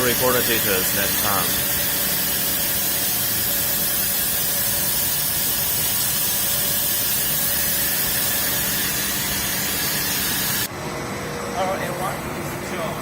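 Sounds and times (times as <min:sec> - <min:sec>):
machinery hiss: 0:00.0 - 0:10.7.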